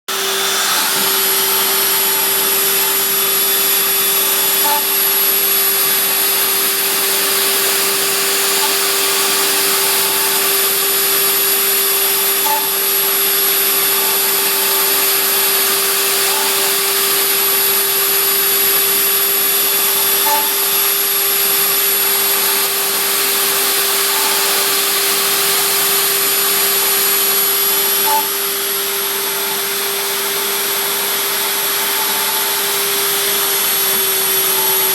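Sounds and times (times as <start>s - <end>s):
spindle motor whining: 0.1s - 34.9s.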